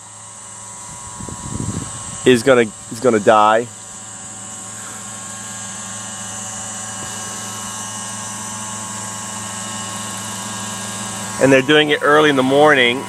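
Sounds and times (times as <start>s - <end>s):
model helicopter engine and rotor: 0.0s - 13.0s.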